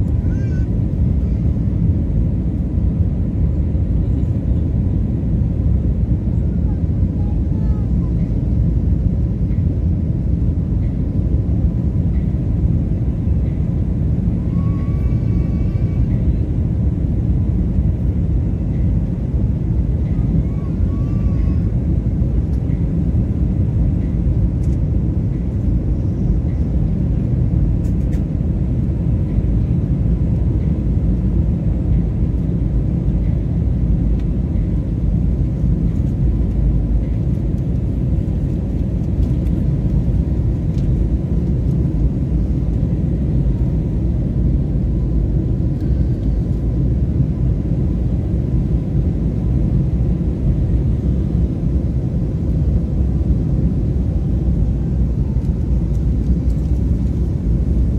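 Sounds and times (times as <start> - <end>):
jet cabin engine rumble: 0.0 - 57.9.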